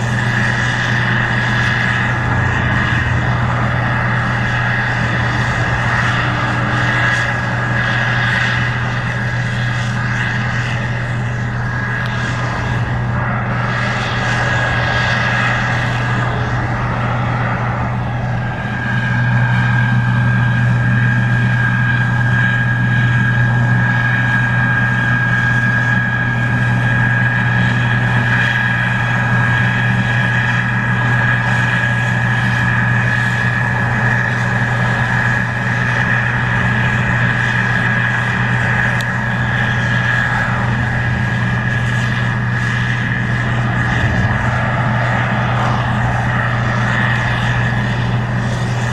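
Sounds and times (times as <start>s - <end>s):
combine harvester engine drone: 0.0s - 48.9s
high steady whine: 0.0s - 48.9s.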